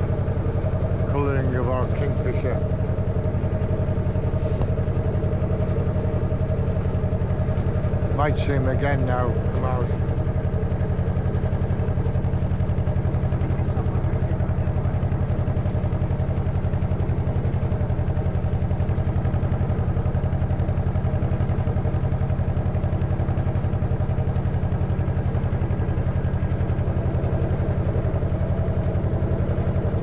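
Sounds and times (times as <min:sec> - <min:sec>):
boat engine pulsing: 0:00.0 - 0:30.0.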